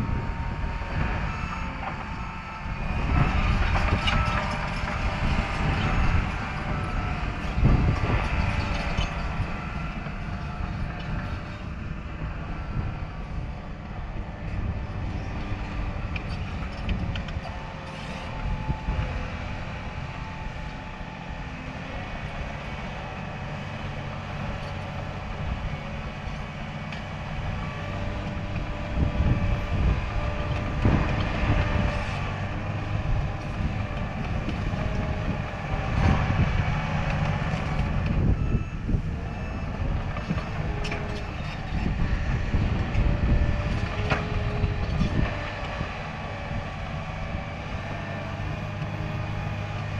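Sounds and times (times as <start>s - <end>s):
bulldozer diesel engine working: 0.0s - 49.9s.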